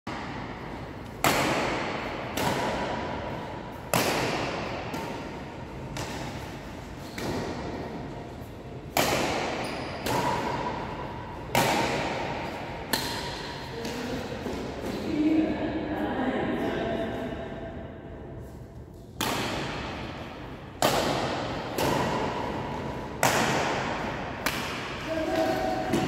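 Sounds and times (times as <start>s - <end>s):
rackets hitting shuttlecock: 0.1s - 15.1s, 18.9s - 26.0s.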